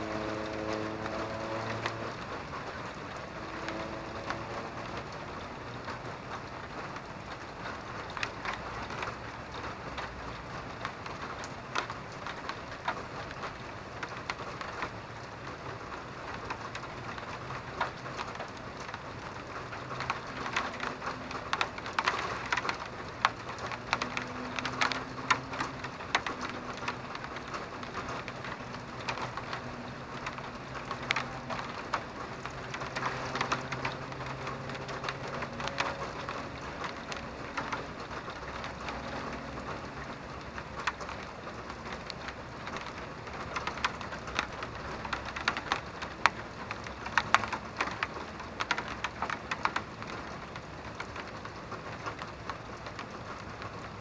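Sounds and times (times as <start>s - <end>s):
raindrops ticking and splatting: 0.0s - 54.0s
steady rain falling: 0.0s - 54.0s.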